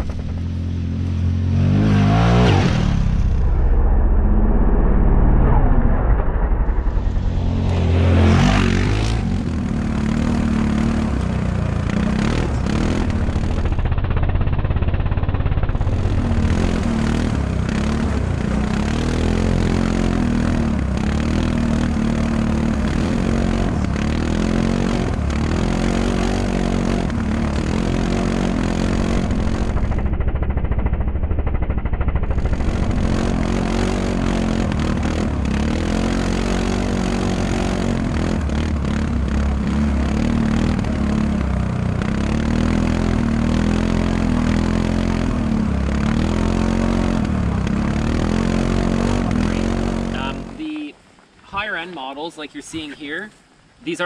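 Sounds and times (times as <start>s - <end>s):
atv engine revving: 0.0s - 3.3s, 6.9s - 51.8s.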